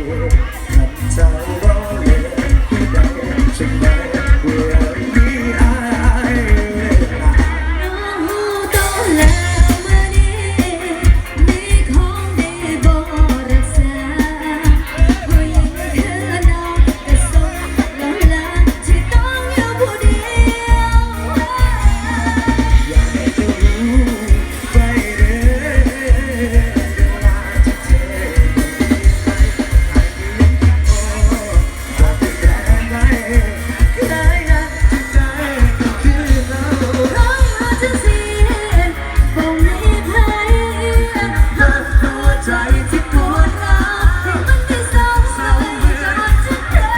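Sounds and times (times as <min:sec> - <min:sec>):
heavy bass and drum beat: 0:00.0 - 0:46.9
pop song with singer: 0:00.0 - 0:46.9.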